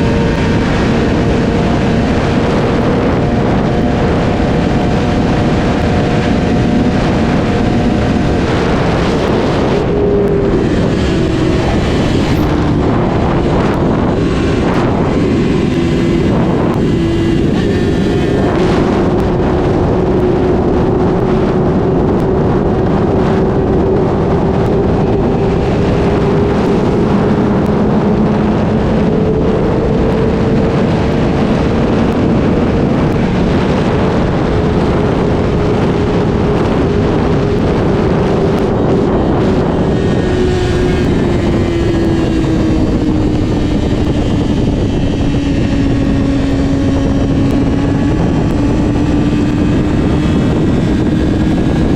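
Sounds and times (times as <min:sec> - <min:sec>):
motorcycle engine running at speed: 0:00.0 - 0:51.9
wind rush on microphone: 0:00.0 - 0:51.9.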